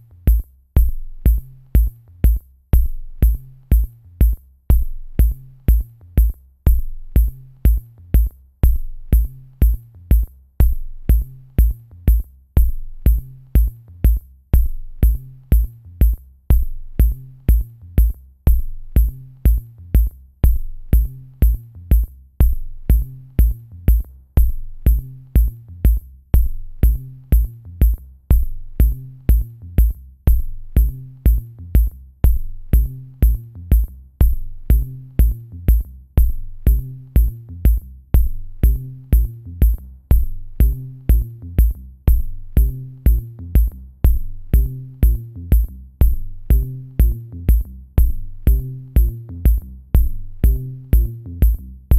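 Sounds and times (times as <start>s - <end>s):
electronic music with drum beat: 0.0s - 51.9s.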